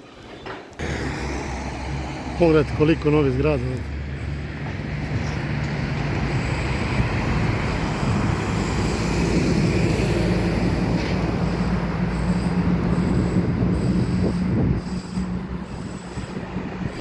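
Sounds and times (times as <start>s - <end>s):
passing vehicle humming: 0.8s - 17.0s.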